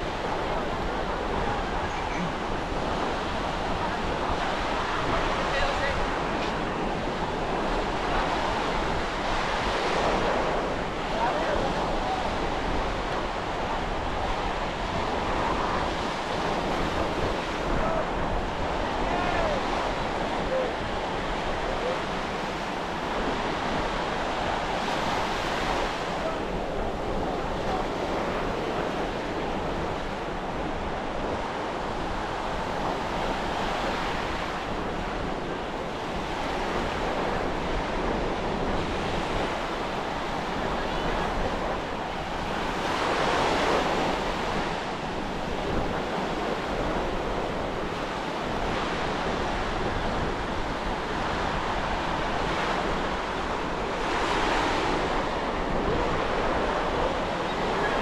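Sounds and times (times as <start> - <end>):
surf breaking on beach: 0.0 - 58.0
wind rumbling on microphone: 0.0 - 58.0.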